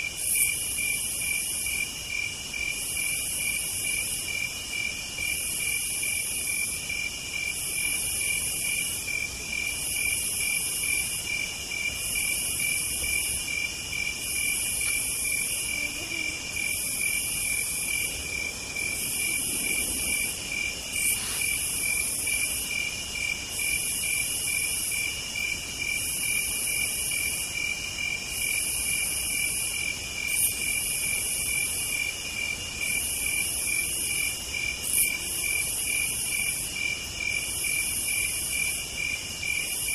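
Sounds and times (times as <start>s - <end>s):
insect fast chirping: 0.0s - 39.9s
insect steady high trill: 0.0s - 39.9s.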